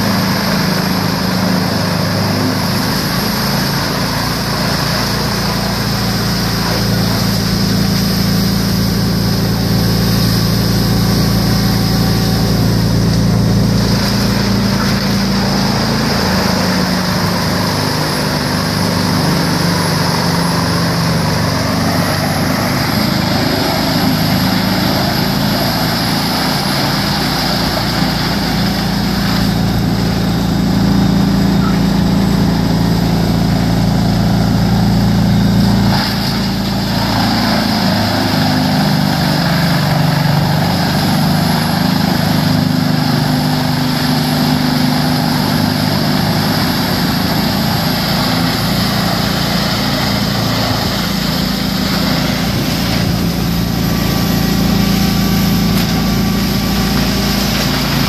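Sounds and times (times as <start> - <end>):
wood chipper chipping logs: 0.0 - 58.0.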